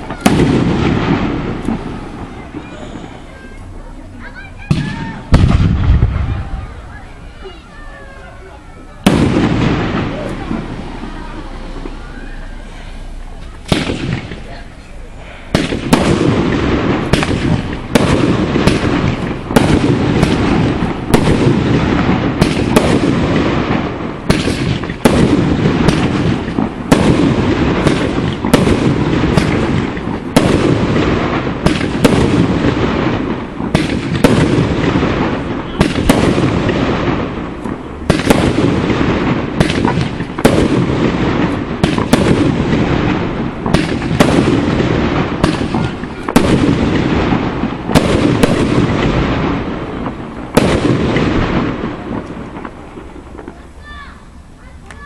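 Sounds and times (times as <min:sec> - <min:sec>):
fireworks bursting with crackle: 0:00.0 - 0:55.0.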